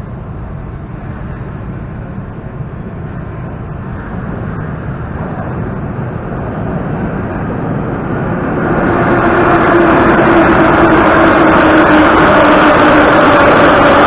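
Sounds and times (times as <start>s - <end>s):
metro train rumble: 0.0s - 14.0s
steady whine: 0.0s - 14.0s.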